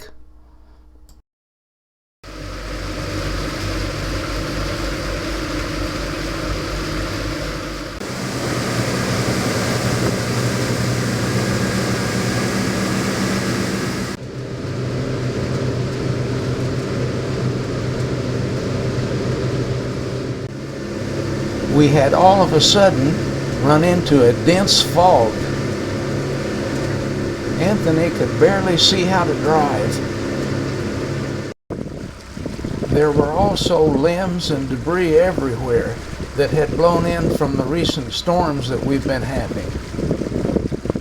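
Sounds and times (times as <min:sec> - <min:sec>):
wind and water rushing: 0:02.3 - 0:14.7, 0:15.4 - 0:41.0
boat motor running: 0:02.3 - 0:41.0.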